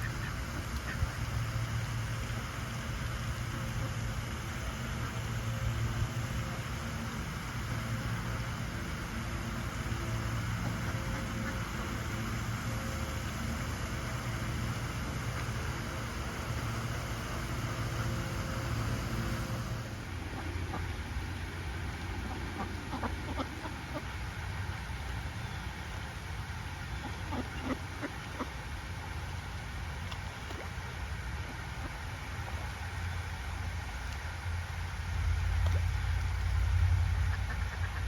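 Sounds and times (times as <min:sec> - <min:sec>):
low engine-like hum: 0:00.0 - 0:38.0.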